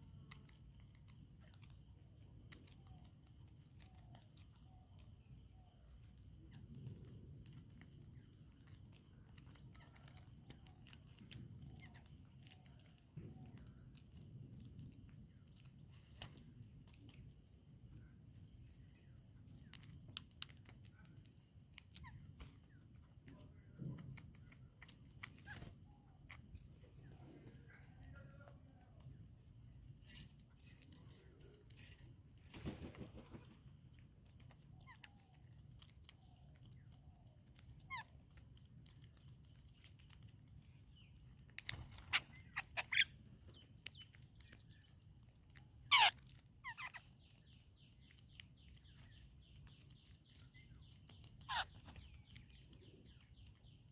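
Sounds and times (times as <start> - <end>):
birds chirping: 0.0 - 53.9
insects droning: 0.0 - 53.9.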